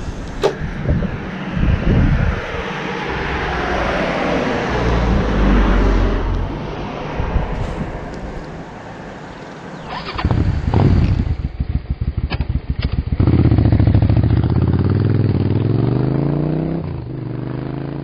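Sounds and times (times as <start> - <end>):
road vehicle passing by: 0.0 - 11.6, 13.2 - 18.0.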